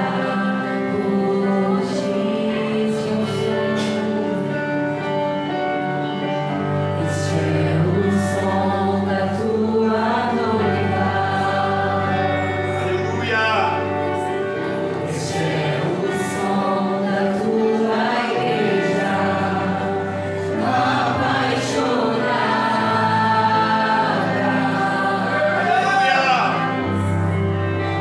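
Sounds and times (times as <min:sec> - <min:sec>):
sustained instrumental chords: 0:00.0 - 0:28.0
voices singing worship song: 0:00.0 - 0:28.0.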